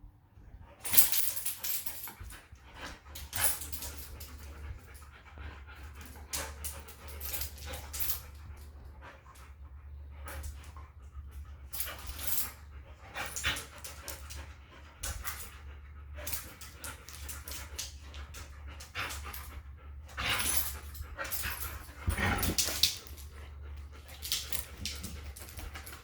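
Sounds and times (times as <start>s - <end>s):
low hum: 0.0s - 26.0s
dogs panting: 0.8s - 26.0s.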